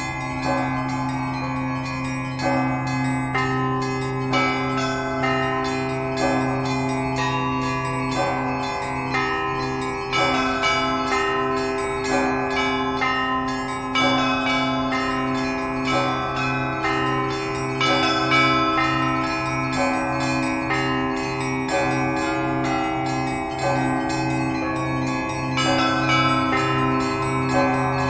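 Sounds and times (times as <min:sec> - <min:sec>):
deep bells humming: 0:00.0 - 0:28.0
small church bells ringing: 0:00.0 - 0:28.0.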